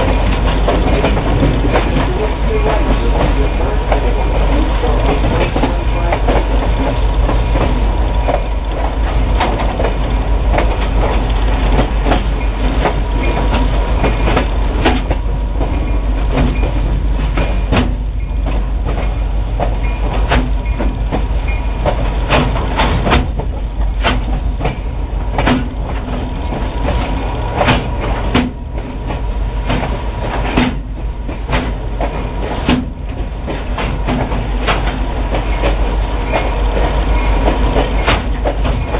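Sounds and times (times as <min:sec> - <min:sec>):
train coach rumbling: 0:00.0 - 0:38.9.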